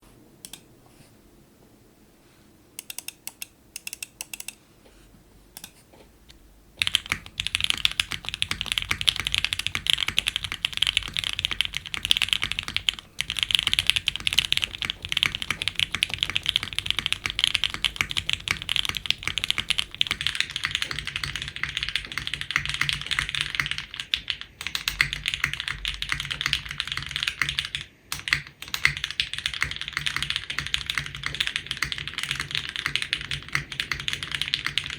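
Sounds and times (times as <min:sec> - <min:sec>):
typing on mechanical keyboard: 0:02.8 - 0:04.6, 0:06.8 - 0:34.9.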